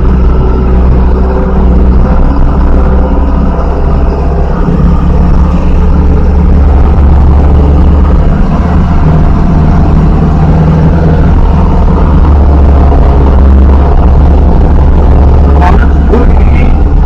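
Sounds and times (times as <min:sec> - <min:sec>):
truck diesel engine straining: 0:00.0 - 0:17.0.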